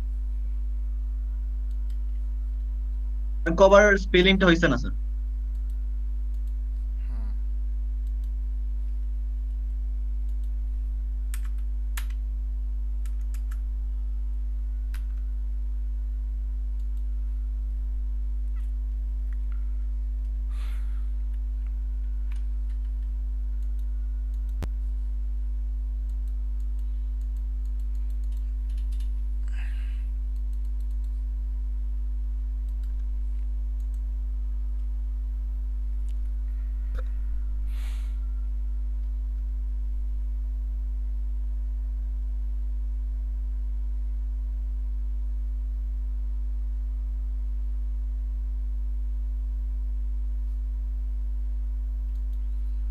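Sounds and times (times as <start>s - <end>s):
low electrical hum: 0.0s - 52.9s.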